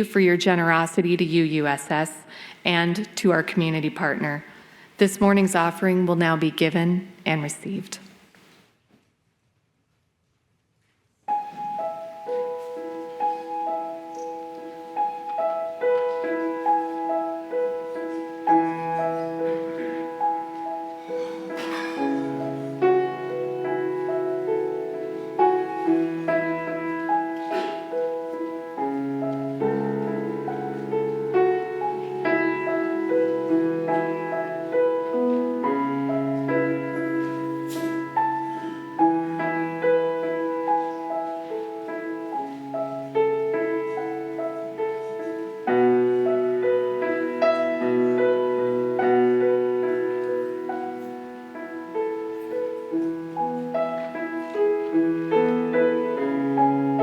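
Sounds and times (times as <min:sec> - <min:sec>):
slow solo piano: 0:11.3 - 0:57.0.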